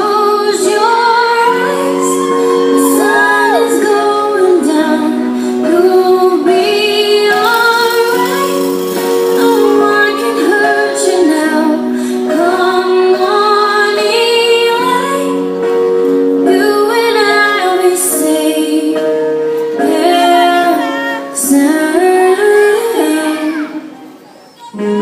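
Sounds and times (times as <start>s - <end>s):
soft sustained accompaniment: 0.0s - 23.4s
woman singing slow ballad: 0.0s - 24.0s.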